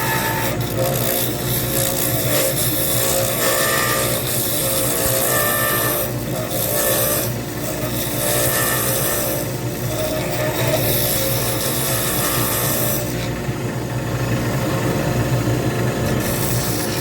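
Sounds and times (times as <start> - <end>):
lathe motor hum: 0.0 - 17.0
tool scraping spinning wood: 0.0 - 17.0.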